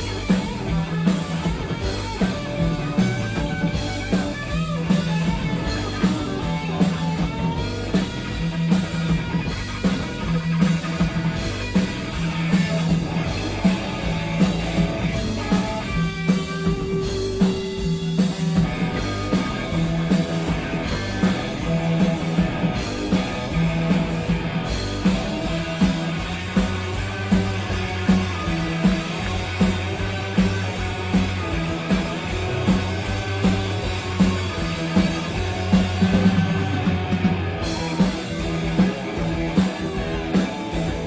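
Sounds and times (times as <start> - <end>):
bass guitar: 0.0 - 41.0
drum kit beat: 0.0 - 41.0
electric guitar: 0.0 - 41.0.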